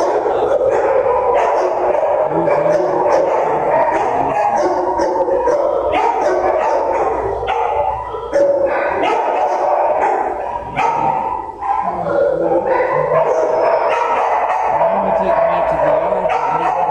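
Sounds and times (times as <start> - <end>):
many dogs barking: 0.0 - 16.9.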